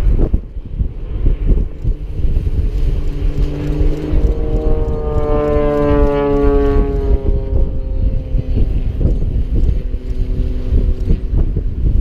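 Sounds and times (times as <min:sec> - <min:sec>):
passing engine hum: 0:00.0 - 0:12.0
wind rumble on microphone: 0:00.0 - 0:12.0.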